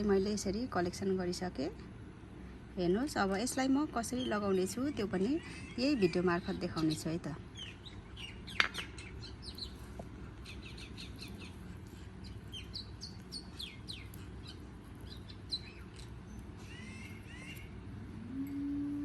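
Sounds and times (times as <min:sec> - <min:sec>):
steady low background noise: 0:00.0 - 0:19.0
small birds chirping: 0:02.8 - 0:18.7.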